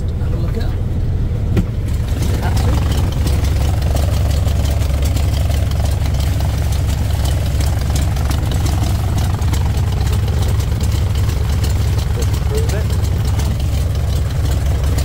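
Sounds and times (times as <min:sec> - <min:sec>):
aircraft engine and propeller: 0:00.0 - 0:15.0
hull moving through water: 0:01.9 - 0:15.0.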